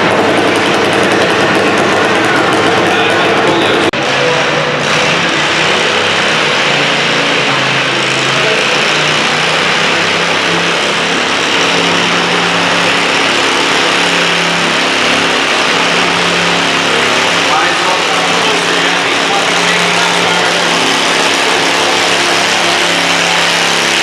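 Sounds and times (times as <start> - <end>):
garden tractor engine revving: 0.0 - 24.0.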